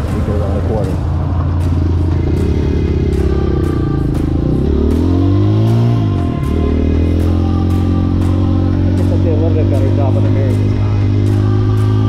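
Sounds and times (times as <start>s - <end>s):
dirt bike engine idling and revving: 0.0s - 12.0s.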